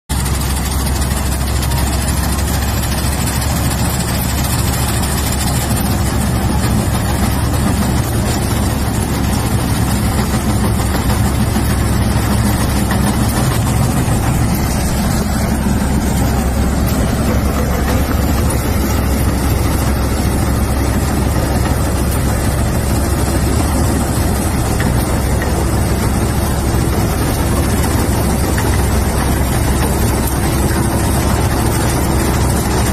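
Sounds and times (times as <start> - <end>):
combine harvester engine drone: 0.1 - 32.9.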